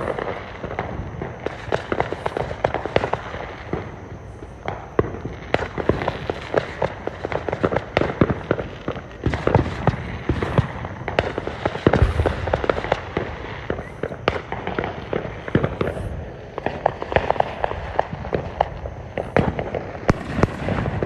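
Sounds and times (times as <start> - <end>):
fireworks cracking and popping: 0.0 - 21.0
heavy firework bangs: 0.0 - 21.0.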